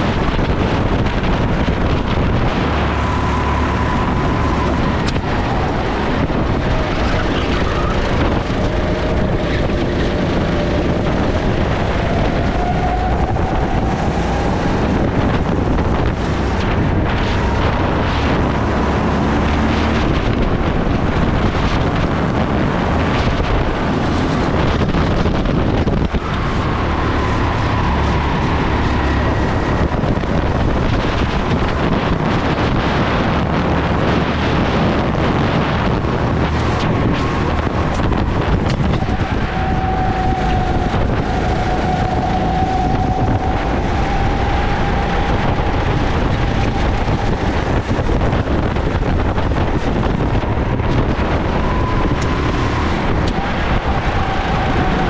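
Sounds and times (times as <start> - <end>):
go-kart engine whine: 0.0 - 55.0
wind noise on microphone: 0.0 - 55.0.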